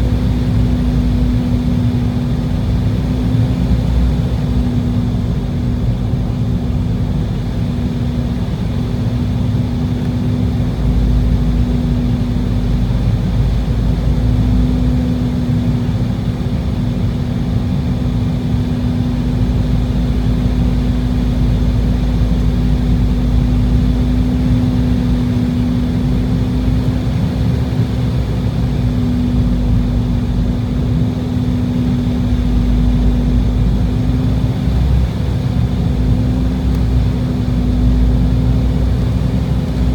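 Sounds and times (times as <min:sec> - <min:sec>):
airliner engine drone in cabin: 0:00.0 - 0:39.9.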